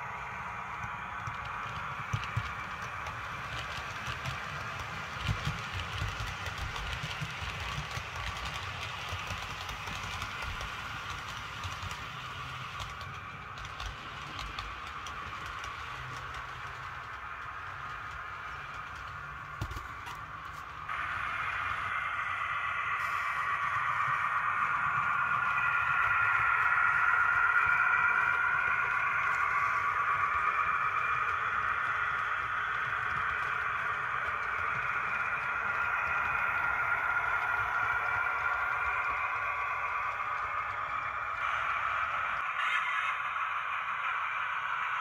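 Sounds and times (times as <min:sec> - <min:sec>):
model train rumbling on track: 0:00.0 - 0:45.0.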